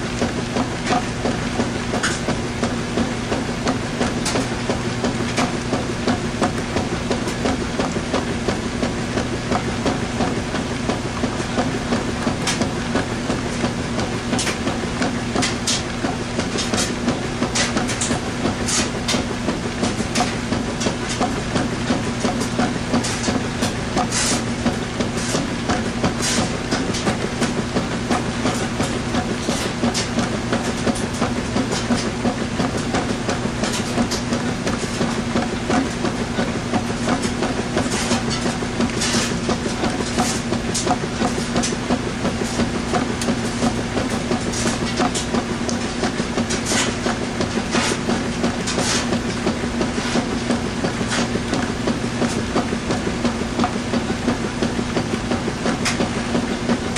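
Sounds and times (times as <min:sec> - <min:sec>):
drum clicking and knocking: 0:00.0 - 0:56.9
washing machine motor hum: 0:00.0 - 0:56.9.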